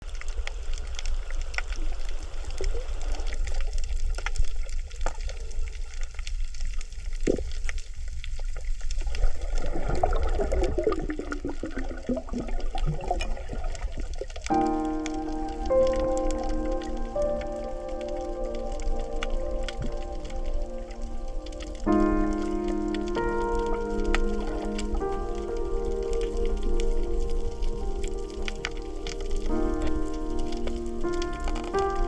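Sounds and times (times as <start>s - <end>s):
bubbly gurgle: 0.0s - 31.1s
crackle of tiny clicks underwater: 0.0s - 32.0s
low rumble of moving water: 0.0s - 32.0s.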